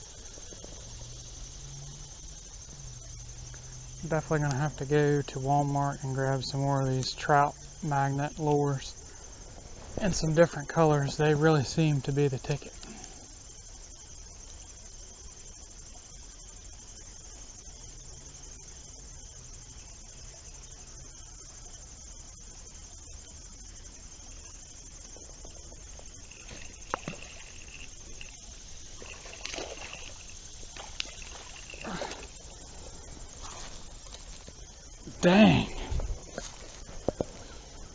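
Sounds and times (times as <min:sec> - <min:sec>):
crickets trilling: 0:00.0 - 0:37.9.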